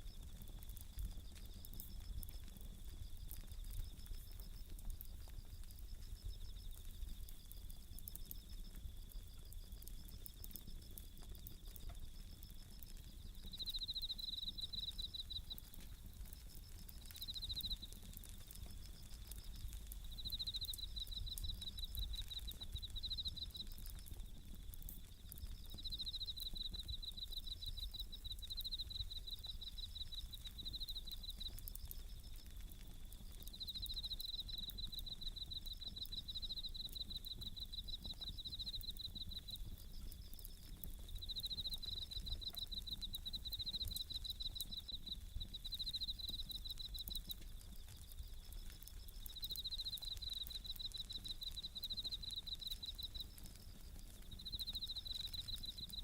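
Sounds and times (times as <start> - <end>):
crickets chirping in trills: 0.0 - 56.0
faint wood fire crackle: 0.0 - 56.0.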